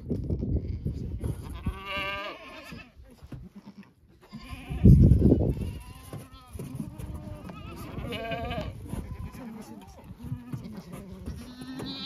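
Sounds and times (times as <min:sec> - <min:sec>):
goat kids bleating: 0:00.6 - 0:12.0.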